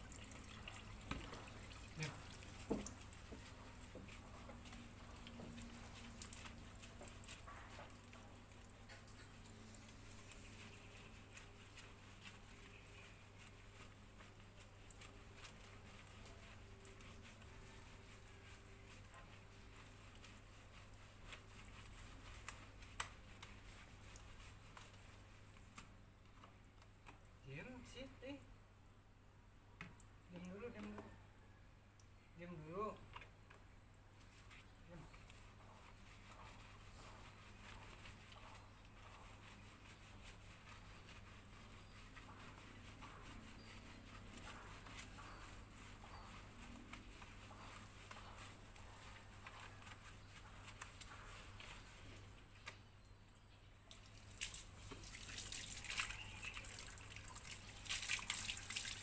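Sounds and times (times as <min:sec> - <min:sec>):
hands scrubbing wet dog fur: 0:00.0 - 0:28.5, 0:29.9 - 0:31.6, 0:32.2 - 0:59.0.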